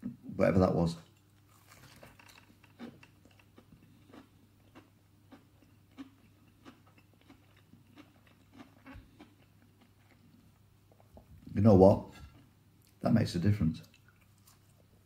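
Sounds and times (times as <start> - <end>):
faint crunchy chewing: 1.0 - 13.0, 13.8 - 15.0.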